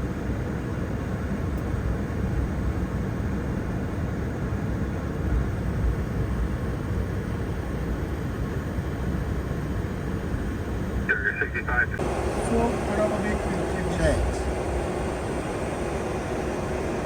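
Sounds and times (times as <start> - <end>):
jet engines idling in cockpit: 0.0 - 17.0.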